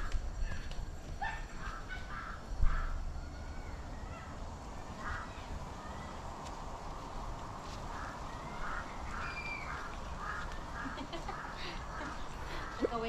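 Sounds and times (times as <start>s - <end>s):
birds calling: 0.0s - 6.2s, 7.1s - 13.0s
steady background noise: 0.0s - 13.0s.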